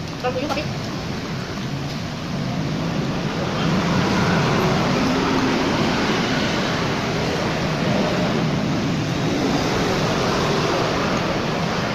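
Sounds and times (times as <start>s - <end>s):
roadside traffic rushing: 0.0s - 11.9s.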